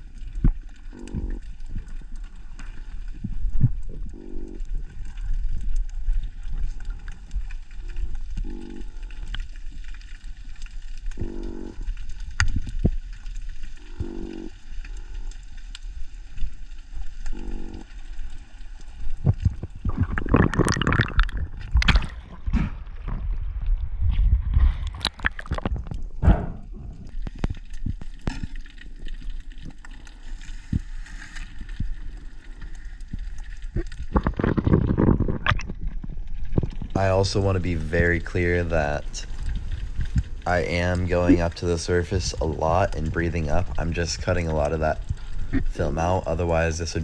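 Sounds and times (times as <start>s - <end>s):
low croak-like pulses: 0.0s - 30.9s, 31.6s - 47.0s
underwater rumble: 0.0s - 47.0s
water gurgling and sloshing: 0.0s - 47.0s.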